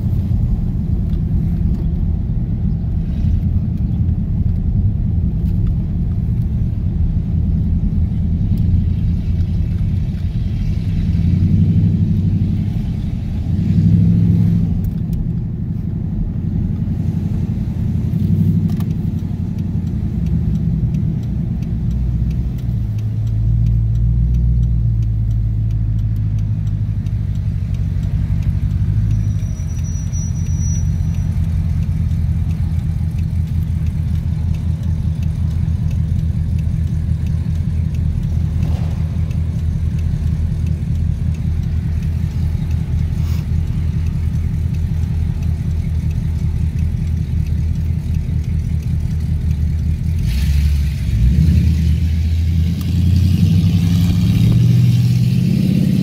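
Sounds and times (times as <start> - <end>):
car engine rumble in traffic: 0.0 - 56.0.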